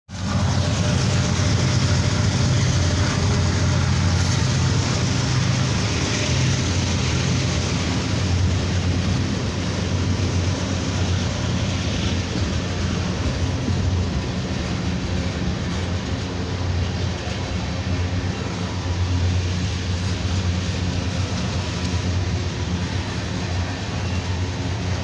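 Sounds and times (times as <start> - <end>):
train wheels rumbling on rails: 0.1 - 25.0.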